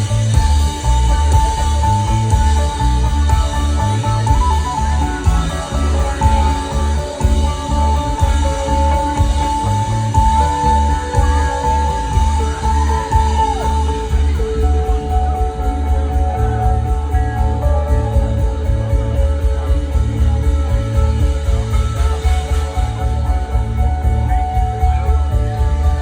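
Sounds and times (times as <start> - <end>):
drums: 0.0 - 26.0
electric guitar lead notes: 0.0 - 26.0
pulsing bass line: 0.0 - 26.0.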